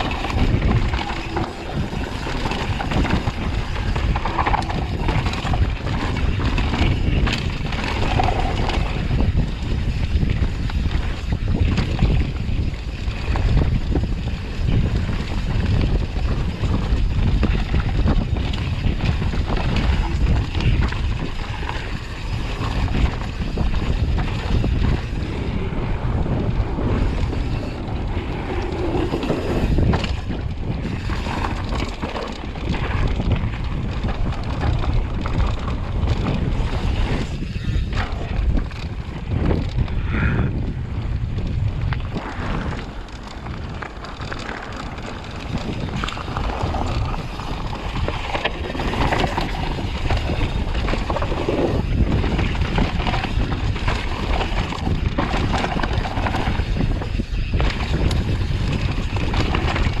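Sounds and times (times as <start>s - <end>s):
bike knocks and rattles: 0.0s - 40.0s, 41.0s - 60.0s
bike tyres rumbling on dirt: 0.0s - 60.0s
wind buffeting microphone: 0.0s - 60.0s.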